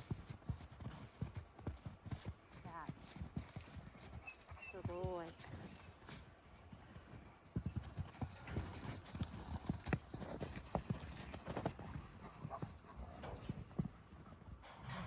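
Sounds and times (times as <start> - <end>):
horse hooves thudding on ground: 0.0 - 15.0.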